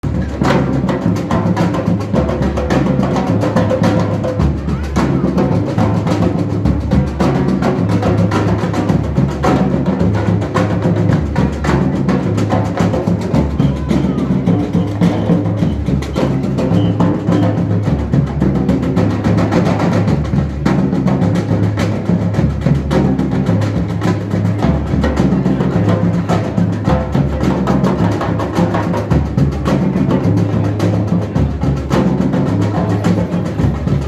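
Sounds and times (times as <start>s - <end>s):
drums playing fast rhythm: 0.0s - 34.0s.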